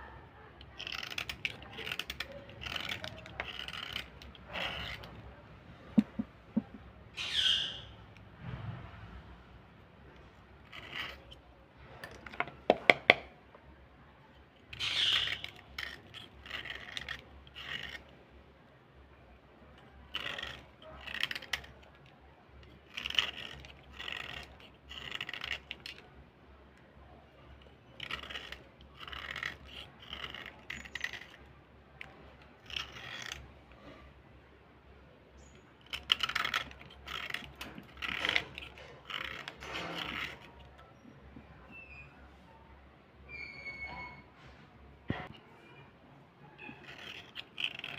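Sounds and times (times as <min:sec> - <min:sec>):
fingers scraping slate pencil: 0:00.0 - 0:08.2, 0:10.0 - 0:13.4, 0:14.2 - 0:34.2, 0:35.4 - 0:42.2, 0:46.6 - 0:47.9.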